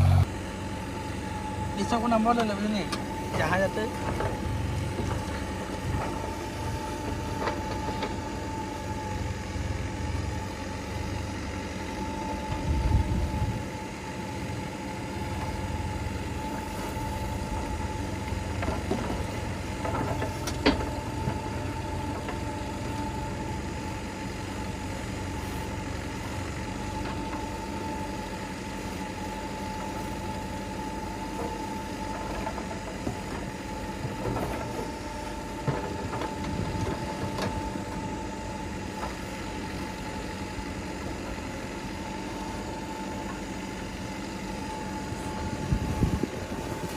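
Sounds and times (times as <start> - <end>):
diesel machinery engine running: 0.0 - 46.9.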